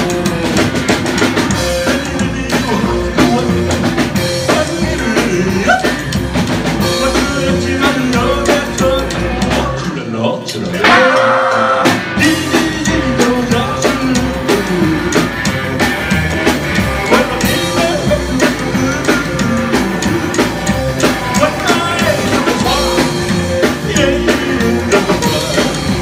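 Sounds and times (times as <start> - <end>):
drum kit beat: 0.0 - 10.0, 10.6 - 26.0
electric guitar: 0.0 - 26.0
upright bass: 0.0 - 26.0
person singing: 1.4 - 6.2, 6.8 - 15.4, 16.8 - 26.0.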